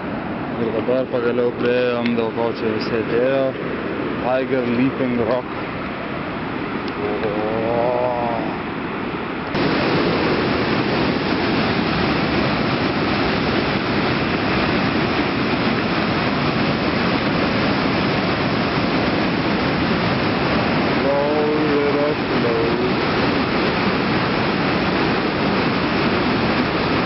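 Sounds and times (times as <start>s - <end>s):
white-water rapids rushing: 0.0s - 27.0s.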